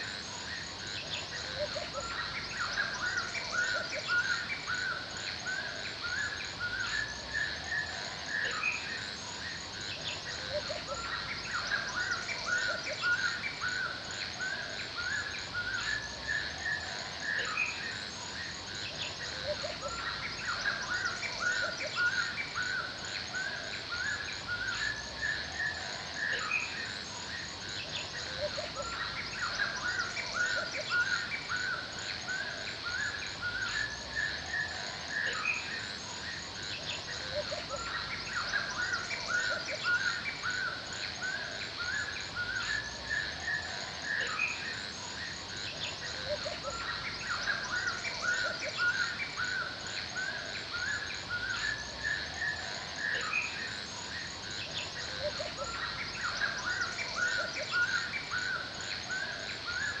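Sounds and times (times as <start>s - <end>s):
birds chirping and calling: 0.0s - 60.0s
high insect hum: 0.0s - 60.0s.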